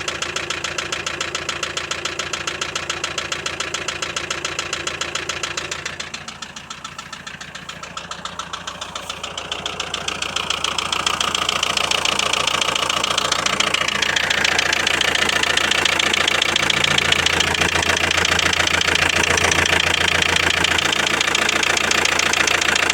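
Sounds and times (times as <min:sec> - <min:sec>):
diesel engine idling with knocking: 0:00.0 - 0:22.9.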